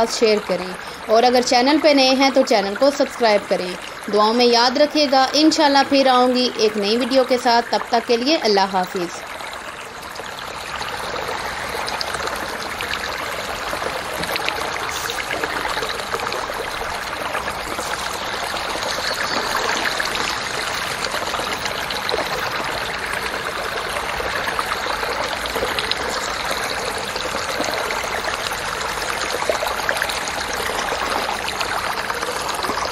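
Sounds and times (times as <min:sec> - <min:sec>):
water rushing down a gully: 0:00.0 - 0:32.9.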